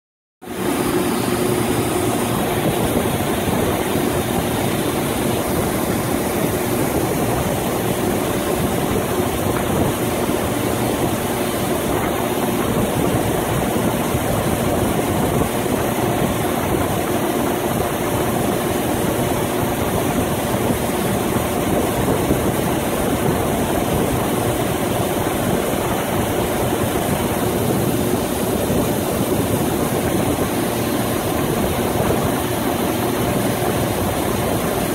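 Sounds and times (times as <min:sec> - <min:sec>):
engine hum: 0:00.4 - 0:34.9.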